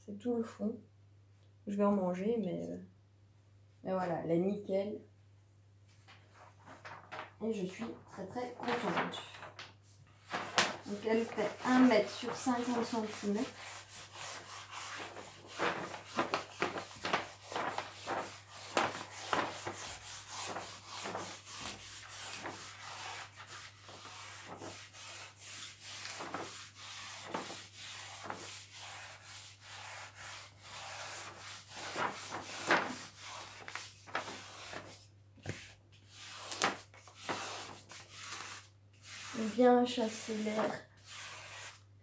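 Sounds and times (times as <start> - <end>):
rubbing strokes over plastic film: 6.1 - 41.9.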